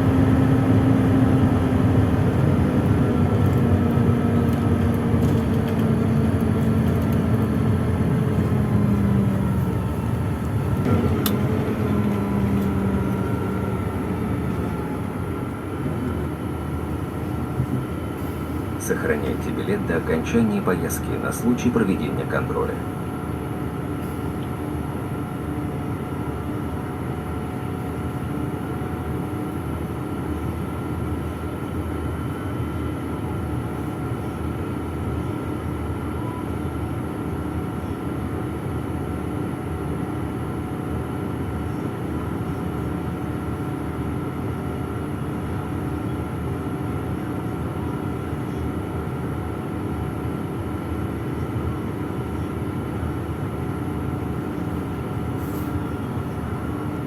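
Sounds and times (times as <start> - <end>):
bus cabin rumble: 0.0 - 57.0.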